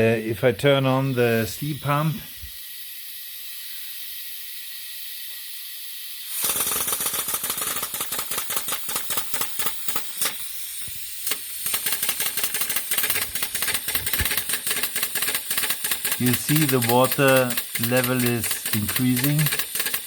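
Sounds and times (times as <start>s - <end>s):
steam hissing: 0.0s - 20.0s
steam pump ticking strokes: 0.0s - 20.0s.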